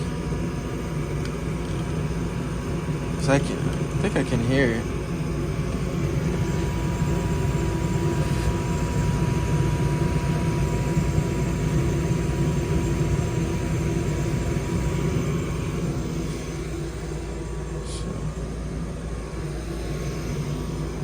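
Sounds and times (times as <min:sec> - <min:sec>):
furnace blower drone: 0:00.0 - 0:21.0.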